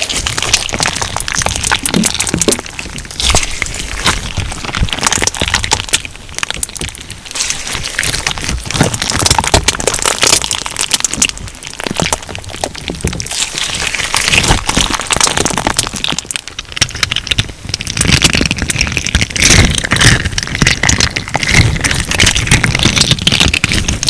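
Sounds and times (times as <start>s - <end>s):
crunch slime crackling: 0.0s - 24.0s.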